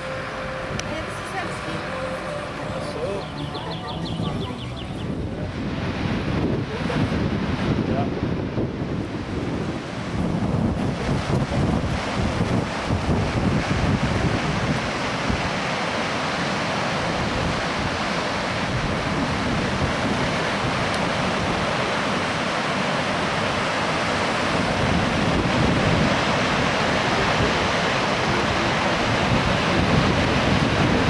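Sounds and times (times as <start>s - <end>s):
wind buffeting microphone: 2.6s - 31.0s
surf breaking on beach: 5.3s - 31.0s.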